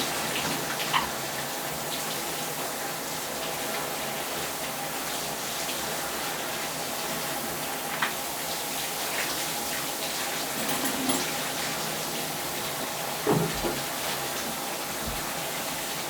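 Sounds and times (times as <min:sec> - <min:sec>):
shower water spraying: 0:00.0 - 0:16.0.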